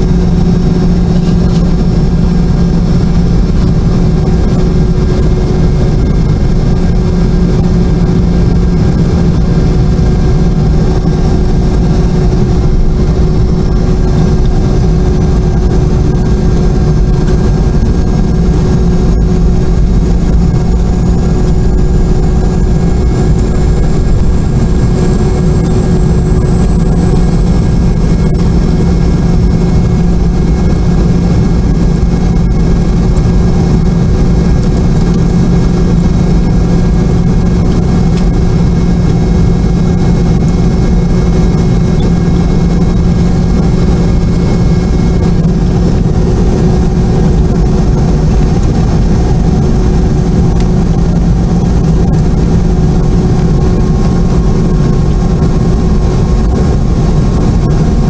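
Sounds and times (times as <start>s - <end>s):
jet engine low hum: 0.0s - 58.0s
rising high whine: 0.0s - 58.0s.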